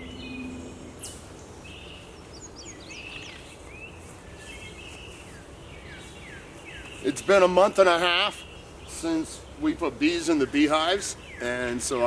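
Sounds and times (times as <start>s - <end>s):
birds chirping and singing: 0.0s - 12.0s
low outdoor background rumble: 0.0s - 12.0s.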